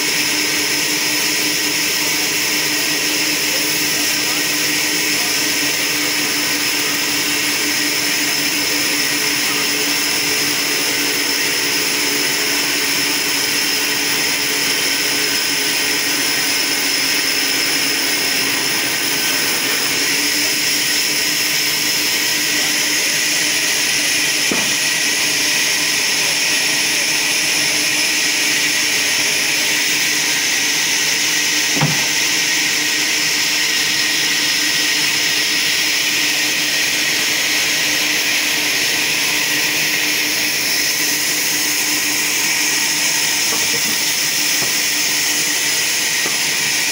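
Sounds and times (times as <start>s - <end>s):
band saw whining: 0.0s - 46.9s.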